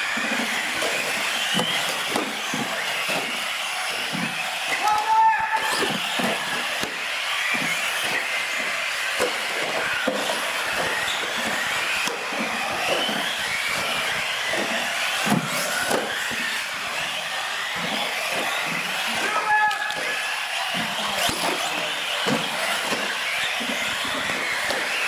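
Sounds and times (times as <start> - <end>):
rc car motors whining: 0.0 - 25.0
tyre noise on concrete: 0.0 - 25.0.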